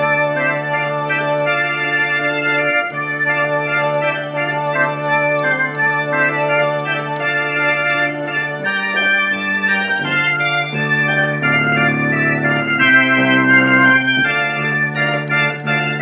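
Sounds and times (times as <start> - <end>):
theatre organ playing a carol: 0.0 - 16.0.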